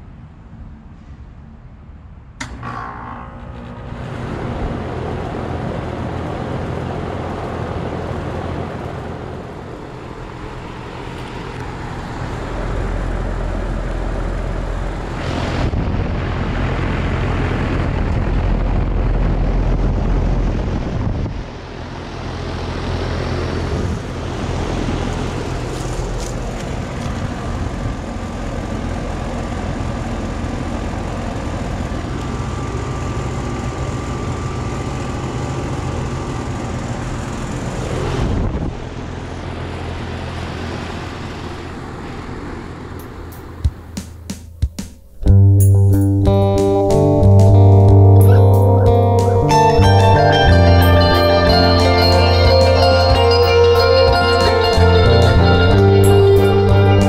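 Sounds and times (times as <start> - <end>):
air conditioner hum: 2.1 - 56.9
condenser fan air rush: 2.4 - 57.0.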